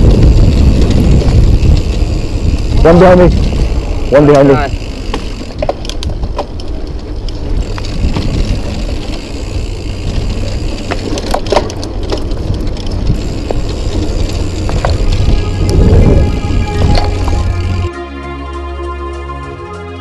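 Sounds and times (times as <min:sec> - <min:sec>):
bike clicks and rattles: 0:00.0 - 0:17.9
tyres rolling over dirt: 0:00.0 - 0:17.9
wind on microphone: 0:00.0 - 0:17.9.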